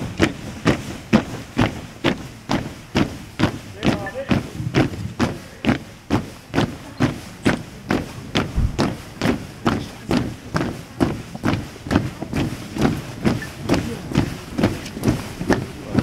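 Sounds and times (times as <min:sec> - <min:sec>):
boots marching on cobblestones: 0:00.0 - 0:16.0.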